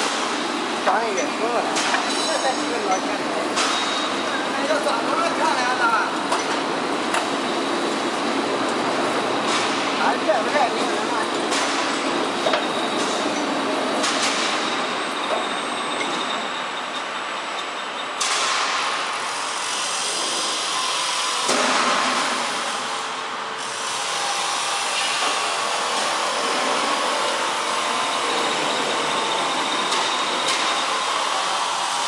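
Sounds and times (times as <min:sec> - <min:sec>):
roll forming machine running: 0:00.0 - 0:32.0.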